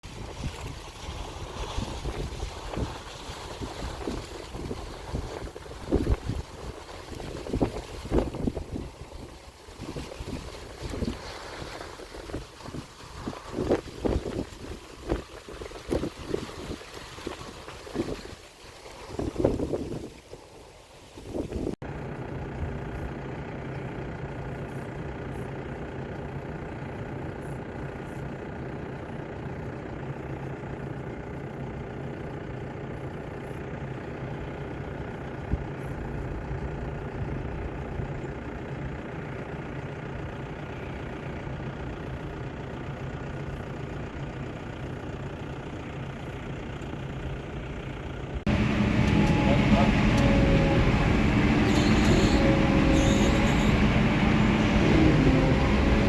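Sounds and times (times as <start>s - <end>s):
heavy diesel engine running: 0.1s - 18.0s, 21.8s - 56.0s.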